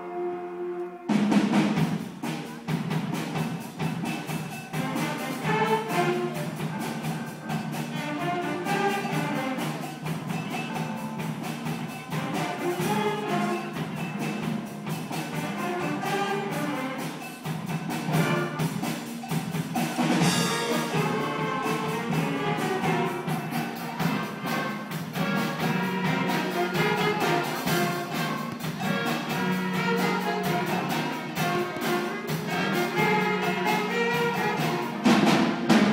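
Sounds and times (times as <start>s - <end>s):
wind instruments: 0.0s - 35.9s
steady drum beat: 1.0s - 35.9s.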